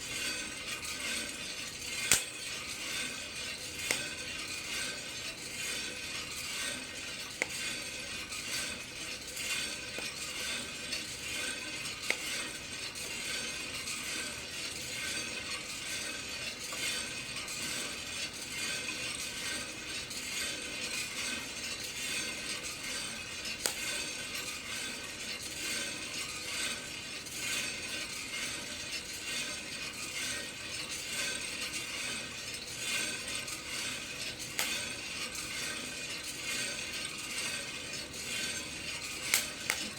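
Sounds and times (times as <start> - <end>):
coffee beans rattling in drum: 0.0 - 39.9.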